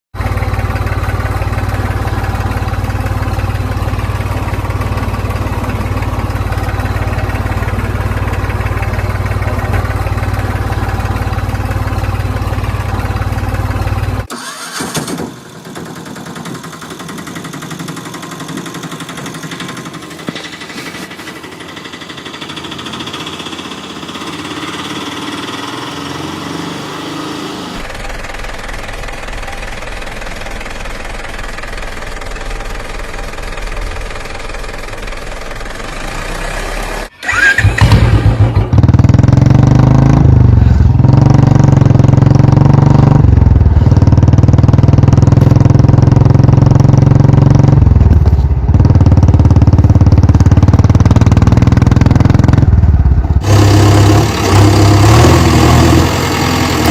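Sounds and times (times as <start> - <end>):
loud engine drone: 0.2 - 56.9.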